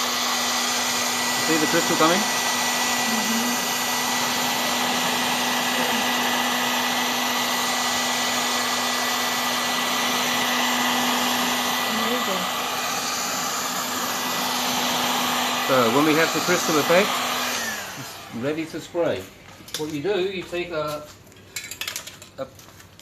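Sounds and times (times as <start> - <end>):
heat gun whirring: 0.0 - 20.9.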